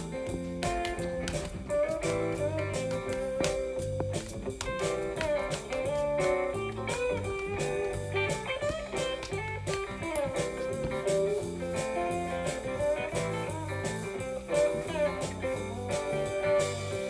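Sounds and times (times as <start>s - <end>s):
blues guitar with bending notes: 0.0s - 17.0s
steady bass line and beat: 0.0s - 17.0s.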